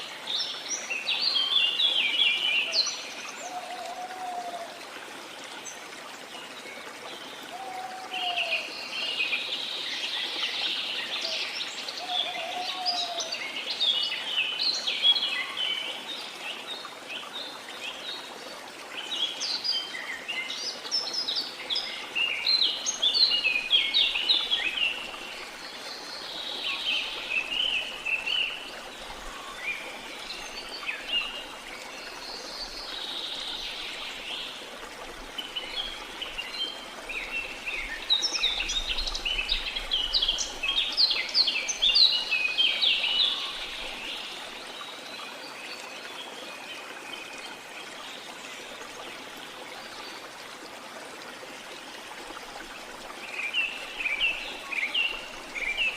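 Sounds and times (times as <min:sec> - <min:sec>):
flowing water: 0:00.0 - 0:55.9.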